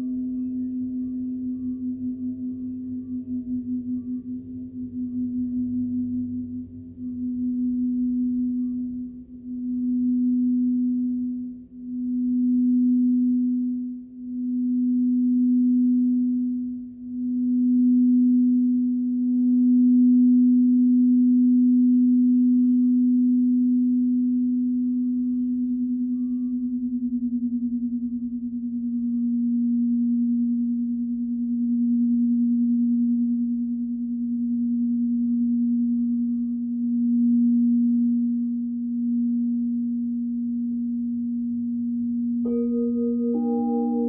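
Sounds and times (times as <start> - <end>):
singing bowl tone: 0.0 - 44.0.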